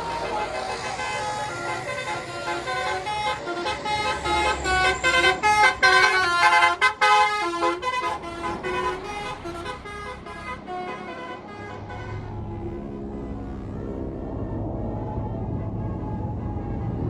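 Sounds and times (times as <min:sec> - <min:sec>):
bus horn playing melody: 0:00.0 - 0:13.7
low vehicle rumble: 0:00.0 - 0:17.0.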